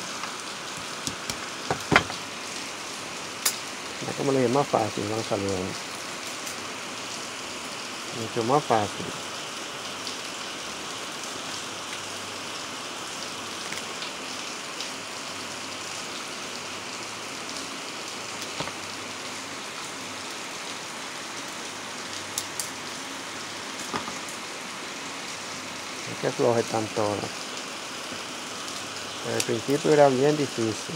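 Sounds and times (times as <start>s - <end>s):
steady hiss: 0.0s - 30.9s.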